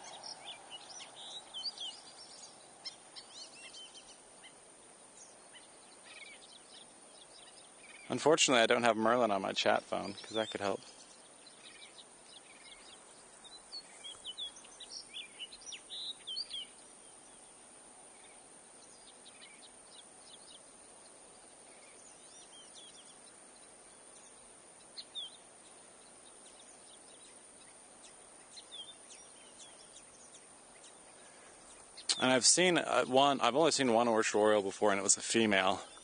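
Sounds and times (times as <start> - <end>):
songbird singing: 0.0 - 36.0
steady outdoor hiss: 0.0 - 36.0.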